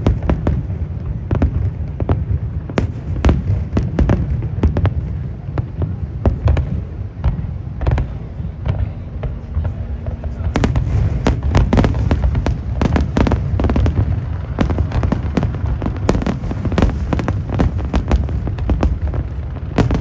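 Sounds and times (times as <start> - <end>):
continuous low rumble: 0.0 - 20.0
fireworks bangs: 0.0 - 20.0.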